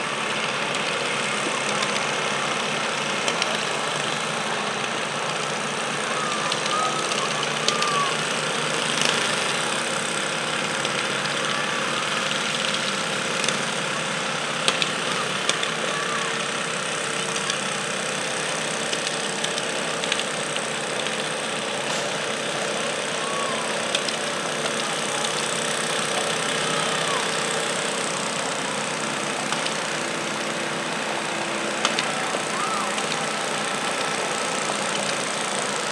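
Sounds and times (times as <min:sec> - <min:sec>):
garden tractor engine idling: 0:00.0 - 0:35.9.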